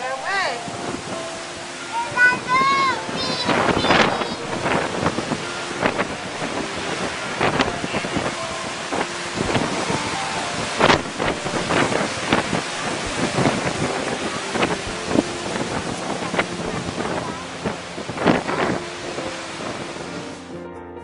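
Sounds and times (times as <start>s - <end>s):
storm surf rushing: 0.0s - 20.6s
wind buffeting microphone: 0.0s - 20.6s.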